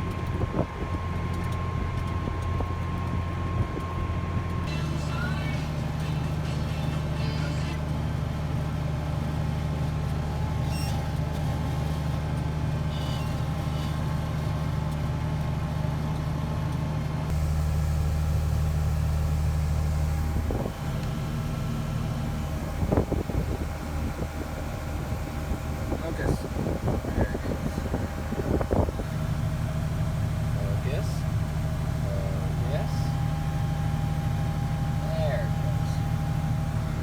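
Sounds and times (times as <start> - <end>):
combine engine hum: 0.0 - 37.0.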